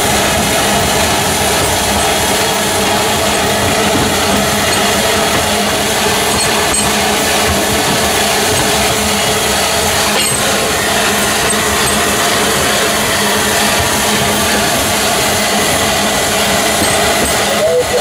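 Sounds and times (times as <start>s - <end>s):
steam locomotive running on rails: 0.0s - 18.0s.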